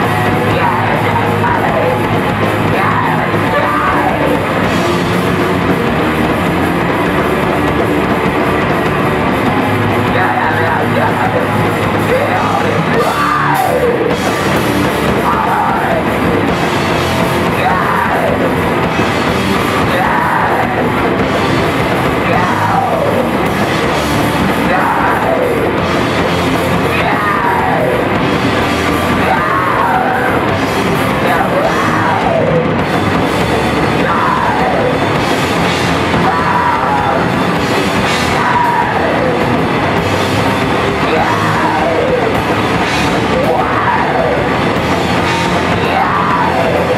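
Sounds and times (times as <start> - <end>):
drums: 0.0 - 46.9
punk band playing live: 0.0 - 46.9
yelled vocals: 0.0 - 46.9.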